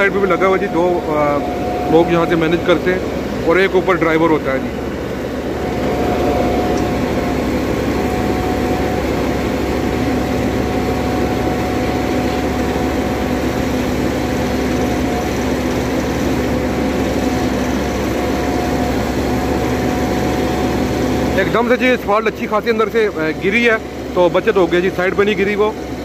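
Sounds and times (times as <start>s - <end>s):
paver engine running: 0.0s - 26.0s.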